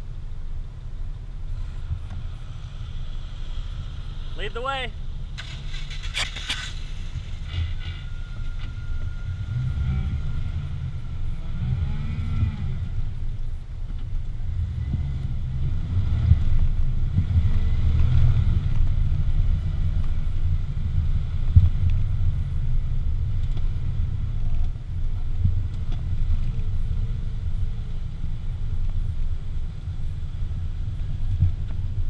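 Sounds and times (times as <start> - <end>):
off-road vehicle engine rumbling: 0.0 - 32.0.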